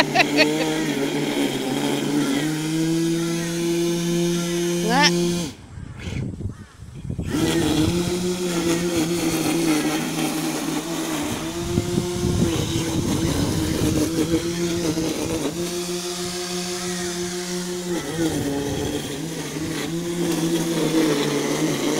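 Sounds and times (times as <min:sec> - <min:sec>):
toy truck motor whining: 0:00.0 - 0:05.7, 0:07.2 - 0:21.9.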